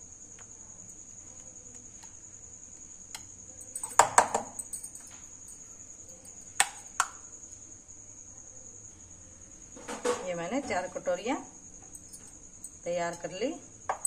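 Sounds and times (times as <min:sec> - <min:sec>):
cricket trill: 0:00.0 - 0:14.0.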